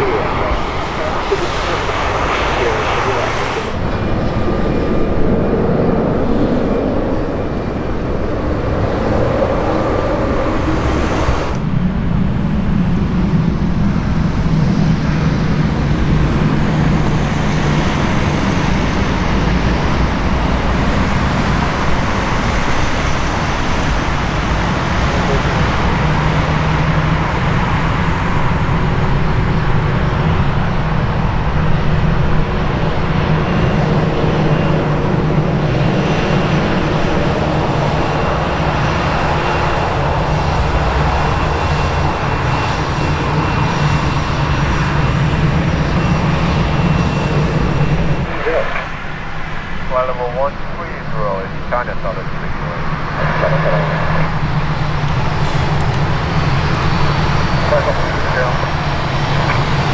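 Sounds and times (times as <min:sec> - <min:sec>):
aircraft engines humming: 0:00.0 - 0:59.9.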